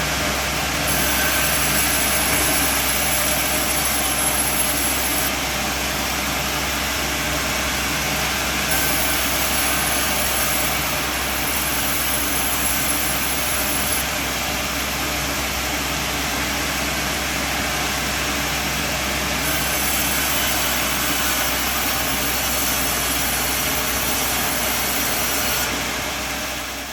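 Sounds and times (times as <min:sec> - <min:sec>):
bandsaw sawmill drone: 0:00.0 - 0:26.9.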